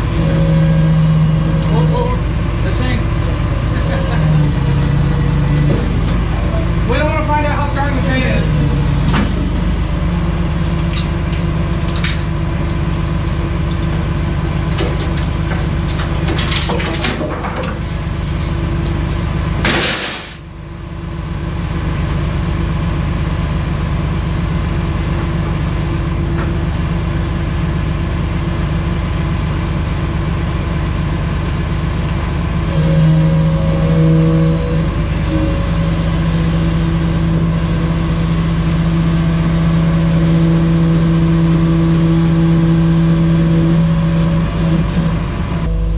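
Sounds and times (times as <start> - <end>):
truck engine running: 0.0 - 16.8, 17.7 - 45.9.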